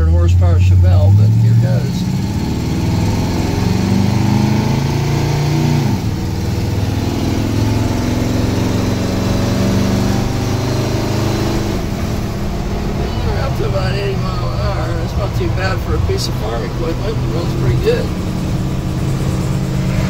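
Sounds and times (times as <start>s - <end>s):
pickup engine accelerating: 0.0s - 20.0s.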